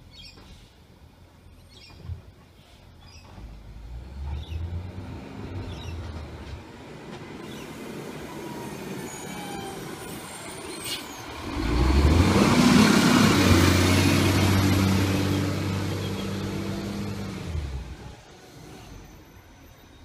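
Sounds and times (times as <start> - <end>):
garbage truck diesel engine passing: 3.7 - 20.0.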